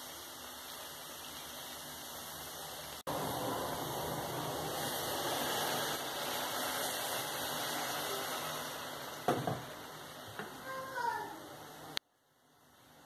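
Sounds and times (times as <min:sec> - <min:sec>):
water hissing in hot pot: 0:00.0 - 0:12.0.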